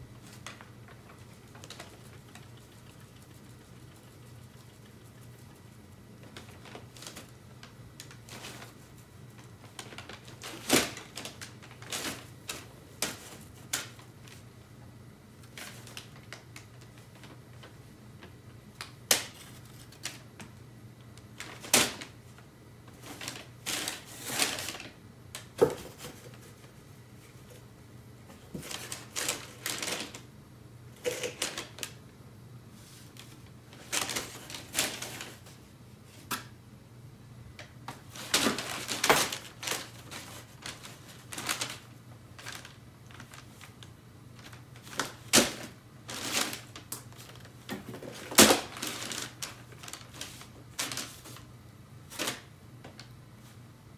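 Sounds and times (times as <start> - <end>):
paper crinkling and rustling: 0.2 - 14.4, 15.4 - 20.5, 21.2 - 27.7, 28.3 - 30.3, 31.0 - 32.0, 32.8 - 36.5, 37.9 - 51.5, 52.1 - 53.6.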